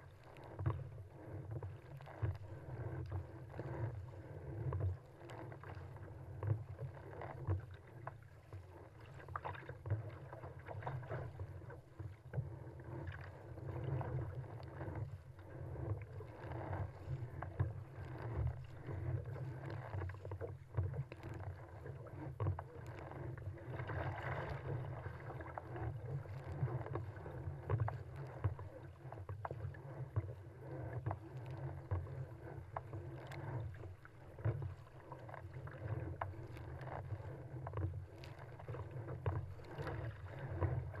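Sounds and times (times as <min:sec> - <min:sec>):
paddle splashes: 0:00.0 - 0:41.0
water slapping against kayak hull: 0:00.0 - 0:41.0.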